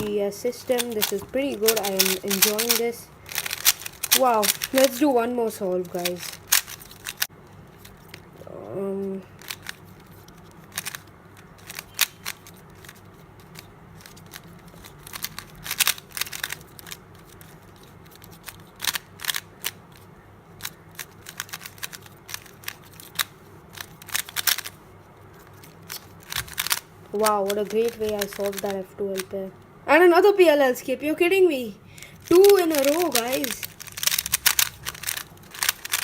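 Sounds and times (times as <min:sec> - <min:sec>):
puzzle cube clicking: 0:00.0 - 0:08.3, 0:09.3 - 0:24.8, 0:25.4 - 0:29.4, 0:32.0 - 0:36.0.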